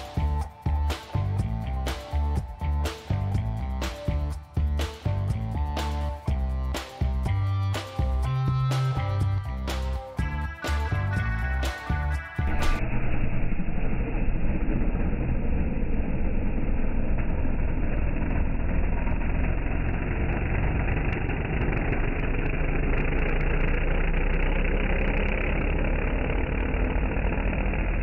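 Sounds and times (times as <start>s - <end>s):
car engines idling: 0.0s - 28.0s.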